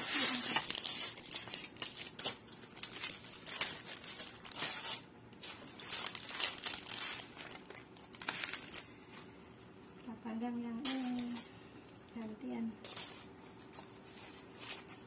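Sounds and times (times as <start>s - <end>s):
aluminium foil crinkling: 0.0s - 9.2s, 10.8s - 11.5s, 12.1s - 15.0s.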